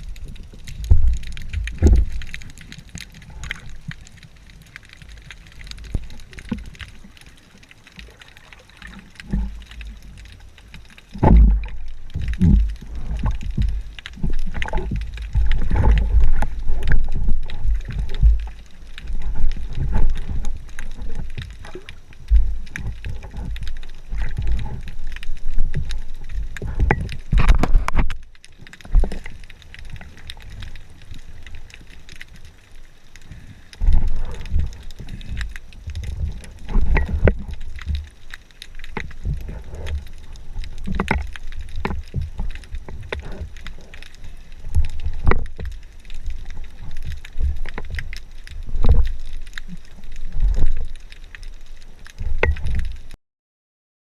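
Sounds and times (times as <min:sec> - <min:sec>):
muffled water sloshing and gurgling: 0:00.0 - 0:53.2.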